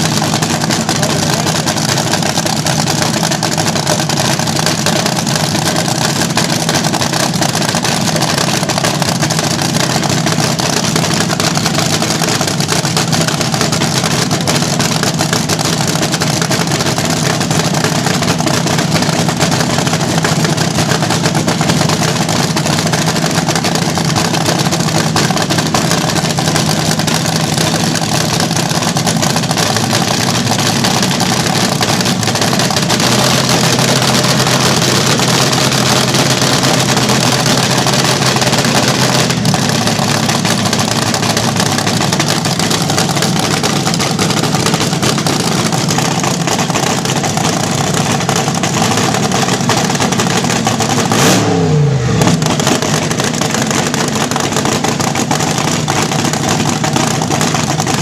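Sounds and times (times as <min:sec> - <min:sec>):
dragster engine idling loud: 0:00.0 - 0:58.0.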